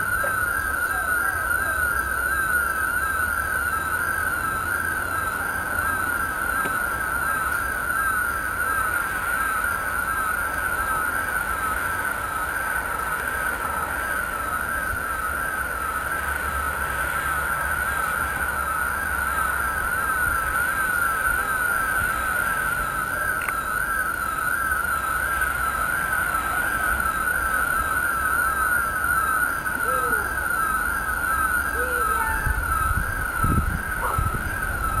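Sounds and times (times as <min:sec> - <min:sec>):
warbling siren: 0:00.0 - 0:35.0.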